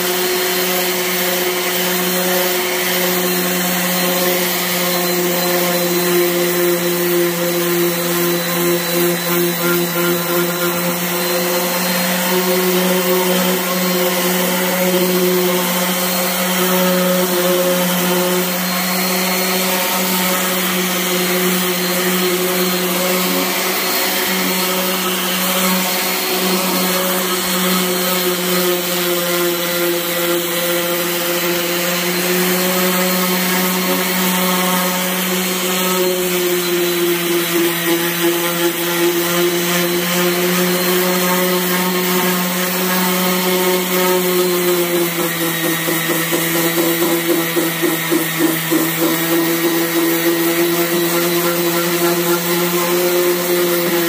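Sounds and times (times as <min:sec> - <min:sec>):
orbital sander on metal: 0:00.0 - 0:54.0.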